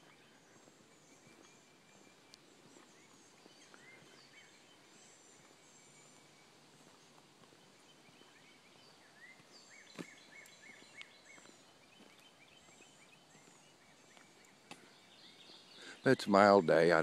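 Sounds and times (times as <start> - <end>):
faint songbirds calling: 0.0 - 17.0.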